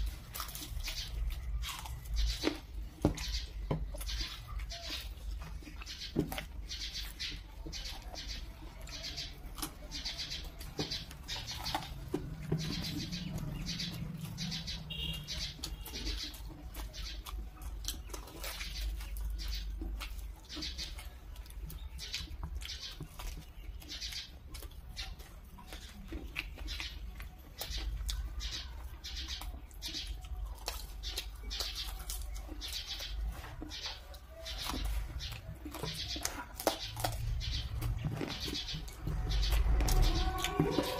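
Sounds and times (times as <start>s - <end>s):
people chewing crunchy food: 0.0s - 40.9s.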